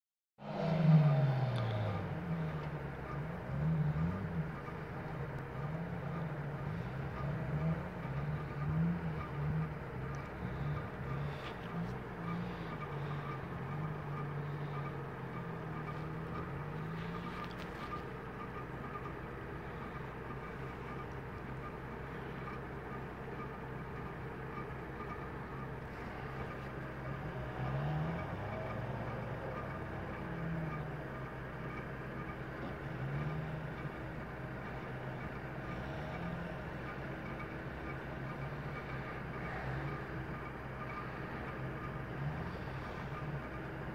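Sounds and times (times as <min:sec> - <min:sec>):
vehicle engine running: 0:00.4 - 0:43.9.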